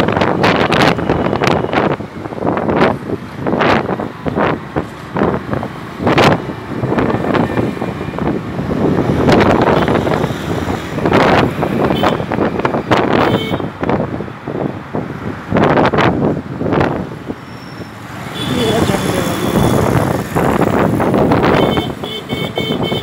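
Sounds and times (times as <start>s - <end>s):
city traffic: 0.0s - 23.0s
wind buffeting microphone: 0.0s - 23.0s.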